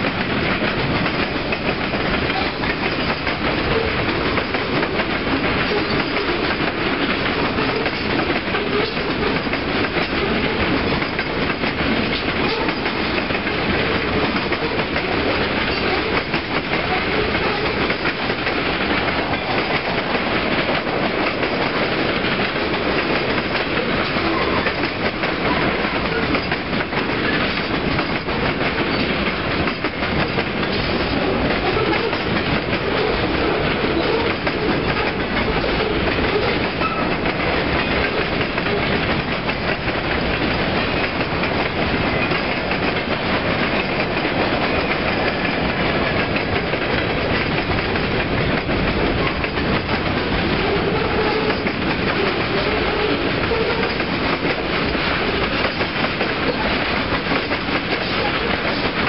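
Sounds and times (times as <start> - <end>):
clickety-clack of wheels over rail joints: 0.0 - 59.0
freight train cars rolling: 0.0 - 59.0.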